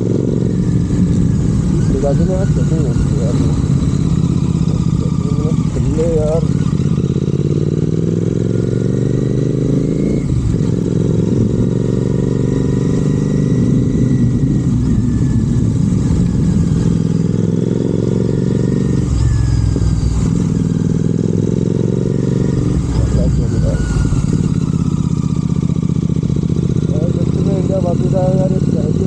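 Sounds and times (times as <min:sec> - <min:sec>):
motorcycle engine while riding: 0:00.0 - 0:29.0.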